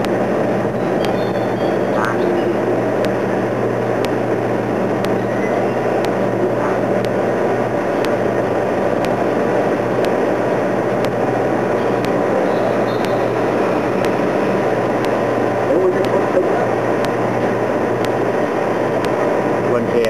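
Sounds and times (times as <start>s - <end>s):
faint ticking: 0.0s - 20.0s
propeller engines droning: 0.0s - 20.0s
rushing noise: 0.0s - 20.0s.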